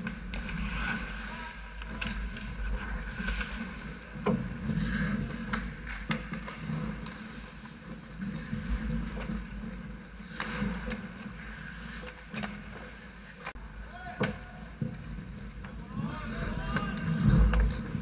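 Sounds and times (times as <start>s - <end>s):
hockey sticks and puck knocking: 0.0s - 13.6s, 14.2s - 18.0s
skates scraping ice: 0.0s - 18.0s.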